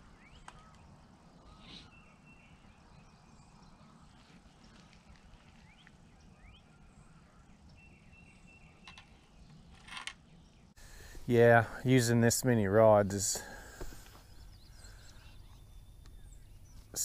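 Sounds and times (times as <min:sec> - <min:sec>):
faint bird chirps: 0:00.0 - 0:11.8, 0:13.4 - 0:17.0.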